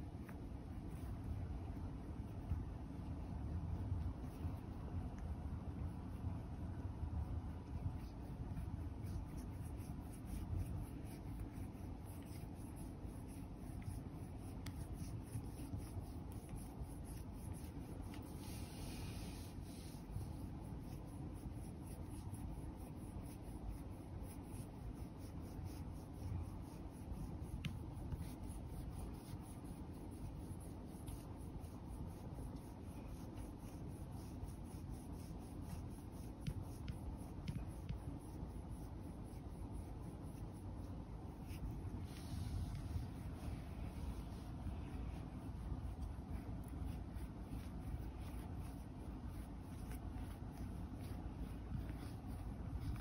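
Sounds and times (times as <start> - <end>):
roller rubbing through fur: 7.2 - 53.0.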